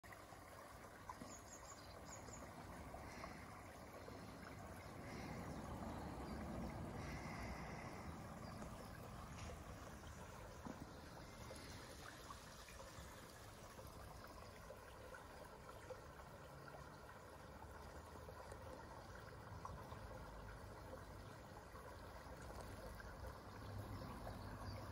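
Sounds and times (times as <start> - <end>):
quiet garden background noise: 0.0 - 24.9.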